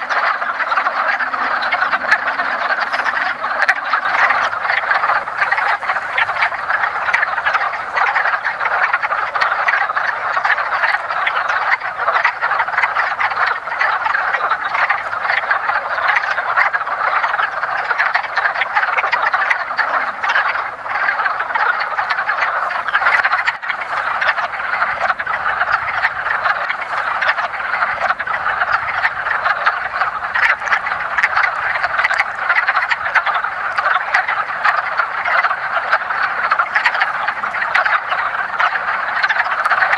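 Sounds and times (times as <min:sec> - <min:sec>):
frogs clucking in chorus: 0:00.0 - 0:39.9.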